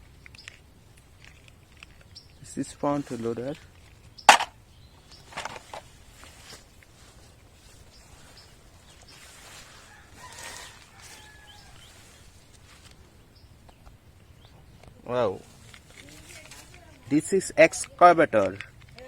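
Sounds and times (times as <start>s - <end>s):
rustling noise: 0.0s - 13.3s, 15.4s - 17.8s.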